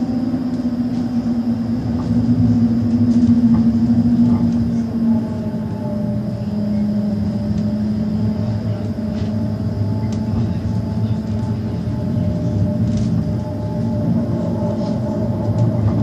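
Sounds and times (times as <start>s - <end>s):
tram hum: 0.0s - 16.0s
tram running rumble: 0.0s - 16.0s.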